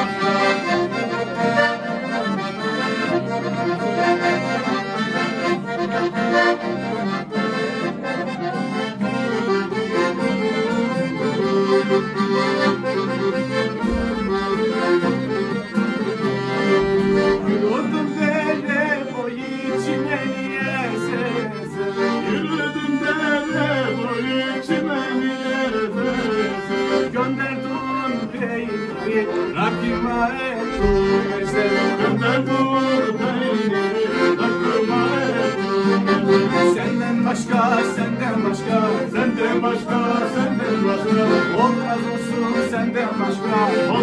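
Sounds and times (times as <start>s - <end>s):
two accordions playing folk tune: 0.0s - 44.0s.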